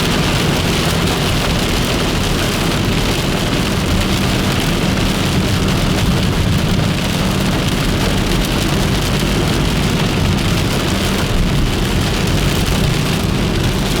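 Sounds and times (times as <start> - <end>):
constant low rumble: 0.0 - 14.0
heavy rain pouring: 0.0 - 14.0.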